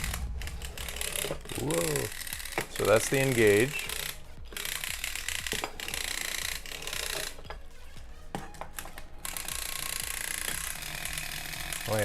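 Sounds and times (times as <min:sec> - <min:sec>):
windup toy motor whirring: 0:00.0 - 0:07.6, 0:08.6 - 0:12.0.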